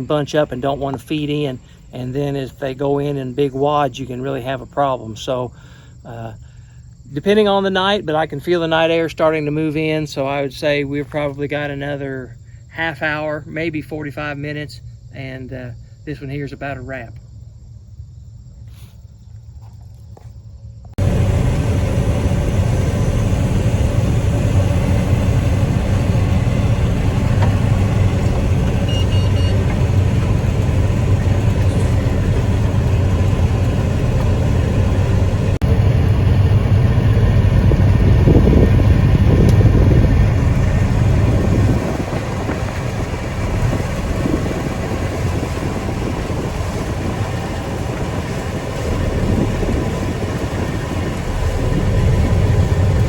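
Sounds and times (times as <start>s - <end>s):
harvester engine hum: 0.0s - 53.0s.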